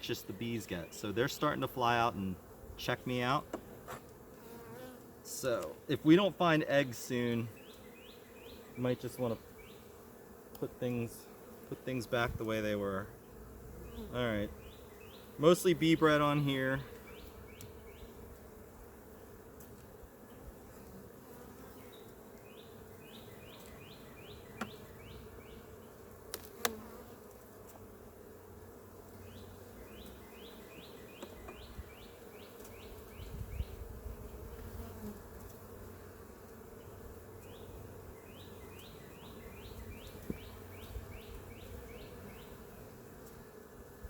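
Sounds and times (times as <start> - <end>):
bees humming: 0.0 - 44.0.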